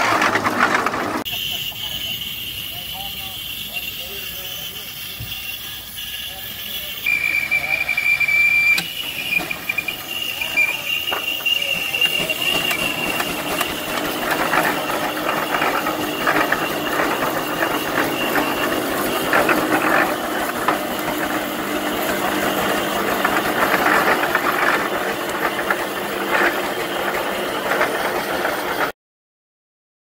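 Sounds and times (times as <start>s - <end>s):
steam engine gears clattering: 0.0s - 28.9s.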